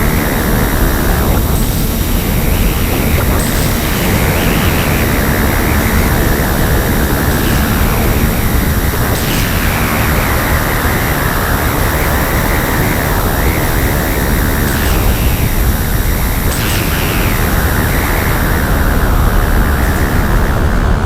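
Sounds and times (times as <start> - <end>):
hiss: 0.0 - 21.0
static-like noise drone: 0.0 - 21.0.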